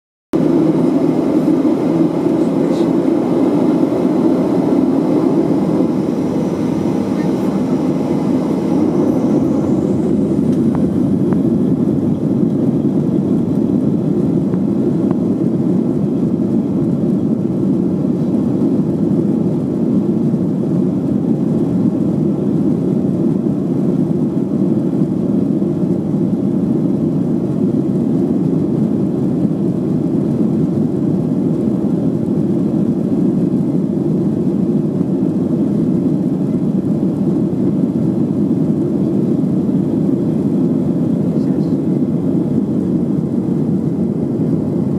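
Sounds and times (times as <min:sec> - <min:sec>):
high engine whine: 0:00.4 - 0:44.9
jet engines roaring: 0:00.4 - 0:44.9.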